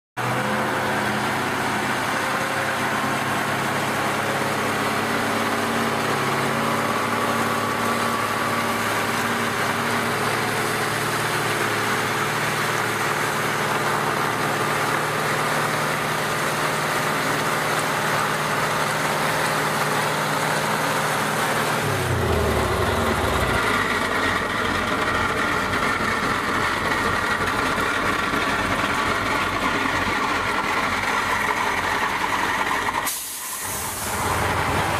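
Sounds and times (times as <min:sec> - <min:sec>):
tyres spinning on road: 0:00.2 - 0:33.0, 0:34.1 - 0:34.9
diesel truck engine revving: 0:00.2 - 0:34.9.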